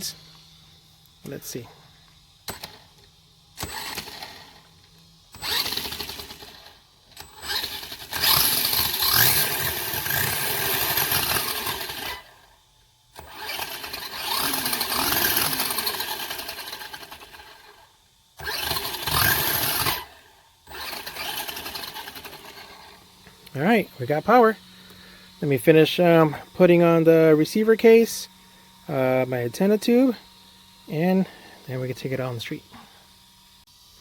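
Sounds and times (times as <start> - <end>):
electric motor revving: 0.0 - 34.0.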